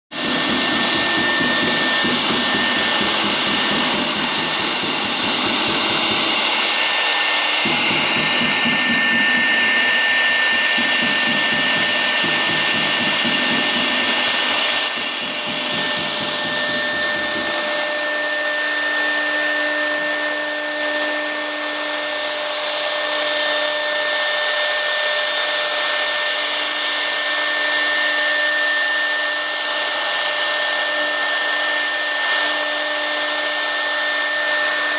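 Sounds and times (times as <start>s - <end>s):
bit milling board: 0.1s - 34.9s
router spindle high whine: 0.1s - 34.9s.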